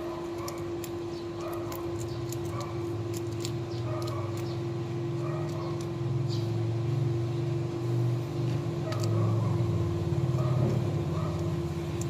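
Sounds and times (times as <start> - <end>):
kittens crunching shrimp shells: 0.0 - 6.3, 8.4 - 12.0
steady low hum: 0.0 - 12.0.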